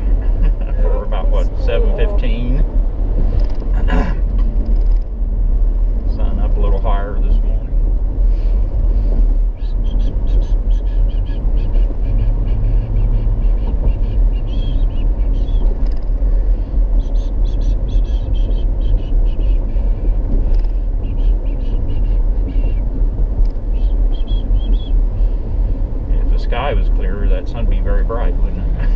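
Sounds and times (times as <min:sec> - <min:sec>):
car road and engine rumble: 0:00.0 - 0:28.9.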